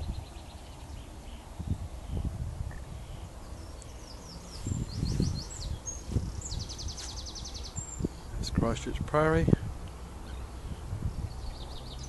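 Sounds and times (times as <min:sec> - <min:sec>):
bird chirping and trilling: 0:00.0 - 0:08.4, 0:10.2 - 0:12.0.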